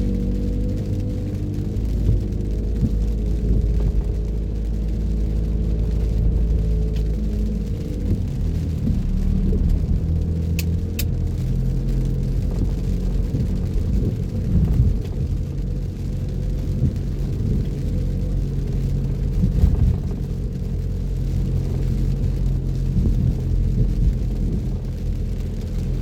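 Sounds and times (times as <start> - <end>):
car driving on wet road: 0.0 - 26.0.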